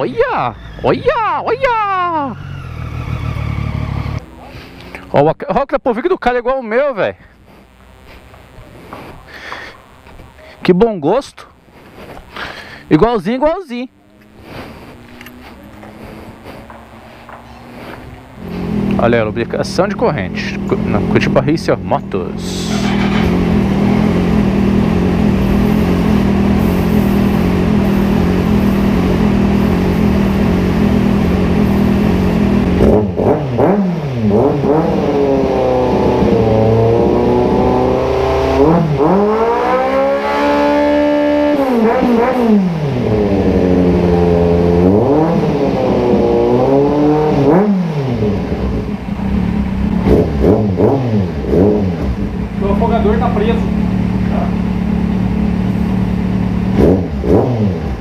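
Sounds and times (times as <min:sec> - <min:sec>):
motorcycle engine idling and revving: 0:00.0 - 0:05.3, 0:11.6 - 0:58.0.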